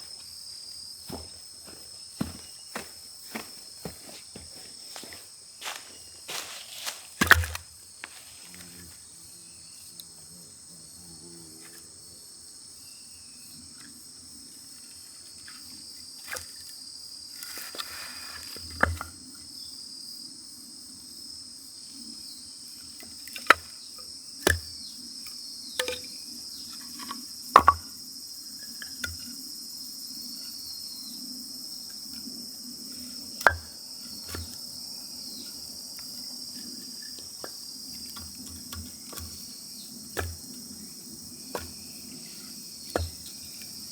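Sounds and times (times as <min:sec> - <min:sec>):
crickets chirring: 0:00.0 - 0:43.9.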